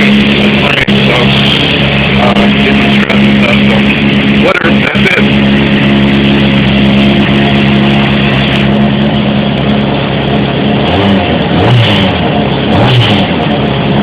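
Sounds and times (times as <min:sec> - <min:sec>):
motorcycle engine idling: 0:00.0 - 0:11.4.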